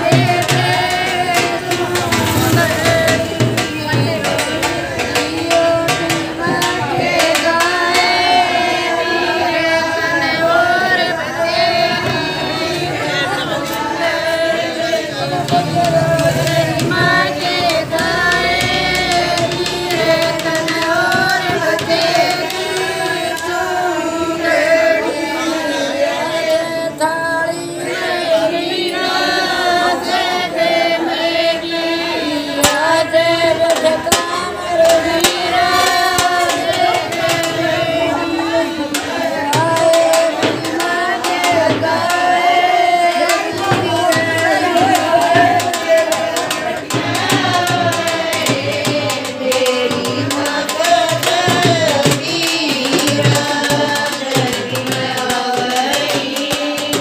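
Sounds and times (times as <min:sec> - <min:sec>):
percussion beating: 0:00.0 - 0:57.0
women singing together: 0:00.0 - 0:57.0.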